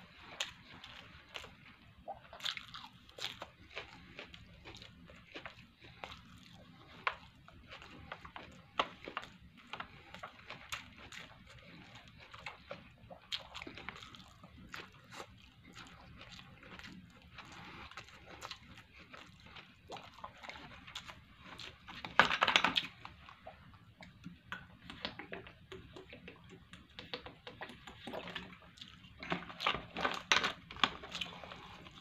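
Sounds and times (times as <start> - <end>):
person chewing and smacking: 0.0 - 32.0.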